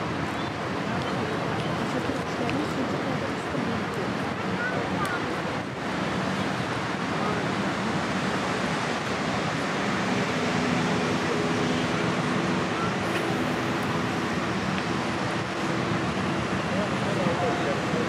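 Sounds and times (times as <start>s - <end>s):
rushing water: 0.0s - 18.0s
rushing wind: 0.0s - 18.0s.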